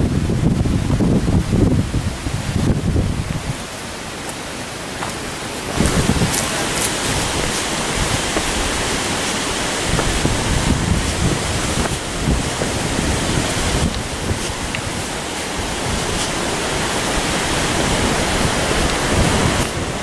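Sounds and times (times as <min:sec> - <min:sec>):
wind buffeting microphone: 0:00.0 - 0:04.0, 0:04.6 - 0:20.0.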